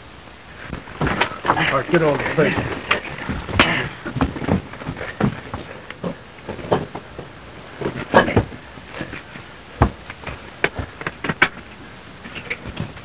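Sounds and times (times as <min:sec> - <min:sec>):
film soundtrack hiss: 0:00.0 - 0:13.0
knocks and clatter of gear: 0:00.6 - 0:13.0.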